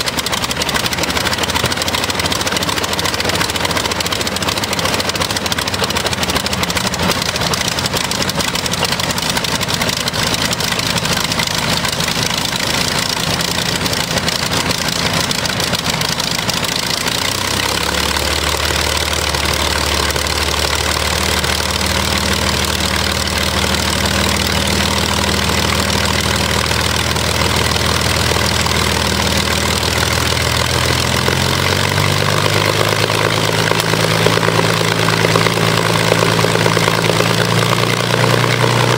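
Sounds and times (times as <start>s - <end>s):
aero engine running: 0.0s - 38.9s.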